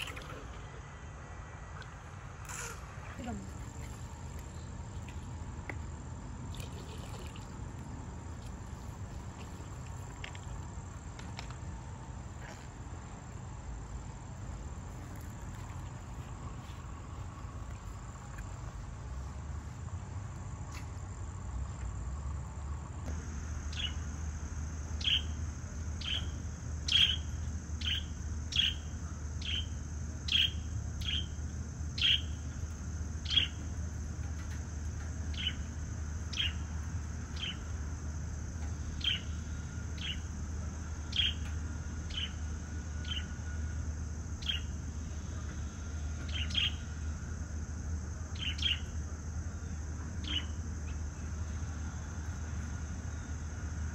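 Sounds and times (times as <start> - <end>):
insect drone: 0.0 - 53.9
low hum: 0.0 - 53.9.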